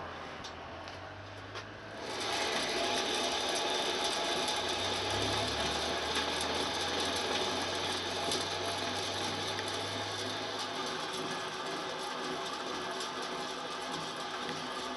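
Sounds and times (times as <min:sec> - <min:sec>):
brake drum spinning: 0:01.4 - 0:14.9.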